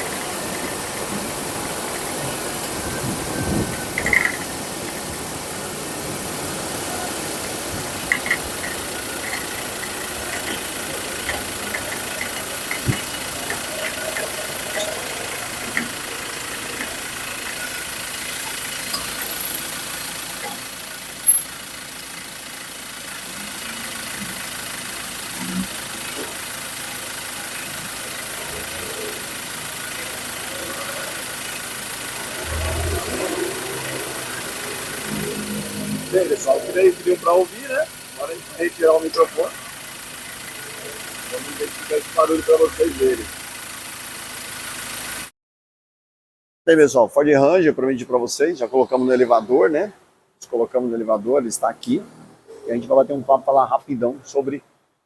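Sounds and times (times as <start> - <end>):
pickup truck running: 0.0 - 45.3, 47.6 - 54.5
suspension clicks: 0.0 - 45.3.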